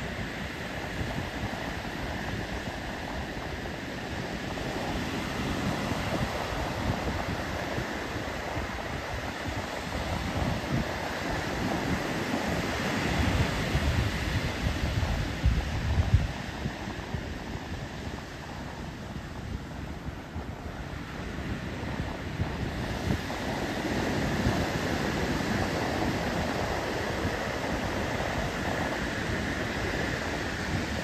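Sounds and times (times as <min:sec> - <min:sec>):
surf breaking on beach: 0:00.0 - 0:31.0
wind buffeting microphone: 0:00.0 - 0:31.0.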